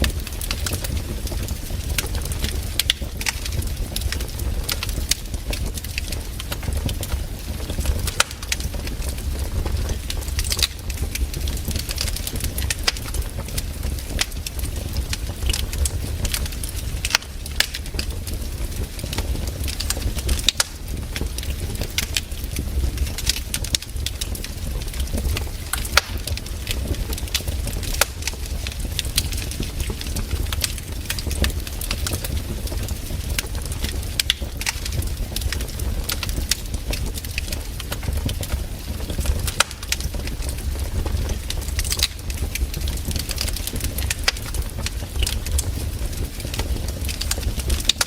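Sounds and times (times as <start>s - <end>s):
campfire crackling: 0.0s - 48.0s.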